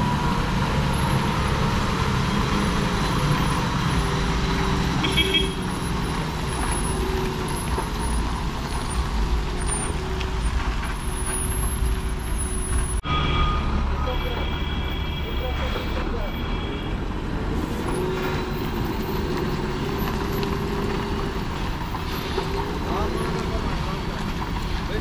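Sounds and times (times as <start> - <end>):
diesel truck engine under load: 0.0 - 13.0, 13.6 - 25.0.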